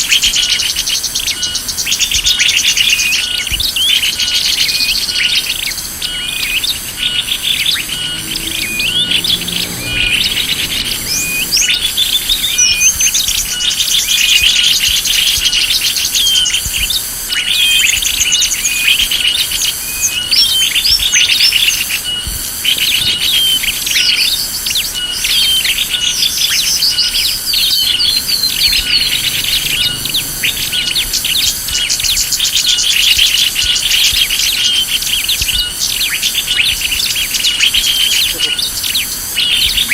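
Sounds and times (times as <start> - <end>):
small birds chirping: 0.0 - 39.9
repeating high-pitched pulse: 3.0 - 24.5, 25.1 - 35.8.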